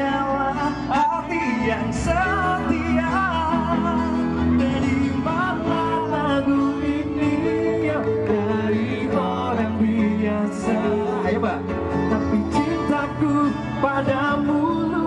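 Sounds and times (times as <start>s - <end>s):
live band playing pop ballad: 0.0s - 15.0s
men singing: 0.0s - 15.0s.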